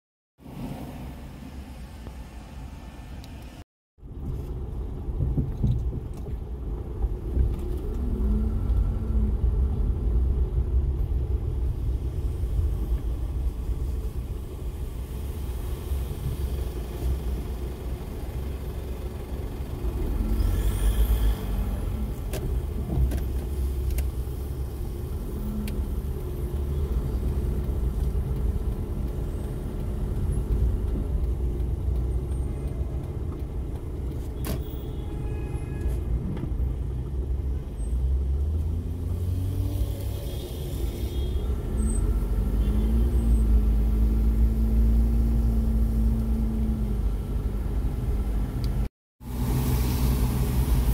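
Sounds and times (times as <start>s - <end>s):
car engine and road noise: 0.4s - 50.9s.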